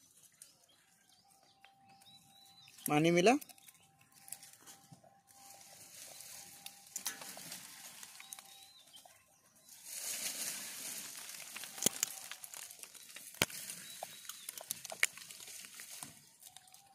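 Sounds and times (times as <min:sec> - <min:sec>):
dry leaves rustling and crinkling: 0:02.6 - 0:16.9.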